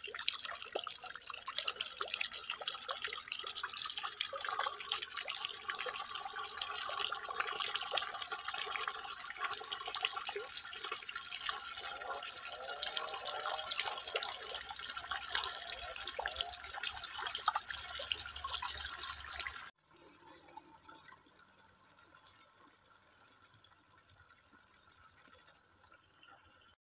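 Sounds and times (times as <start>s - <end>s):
water pouring into pond: 0.0s - 26.8s.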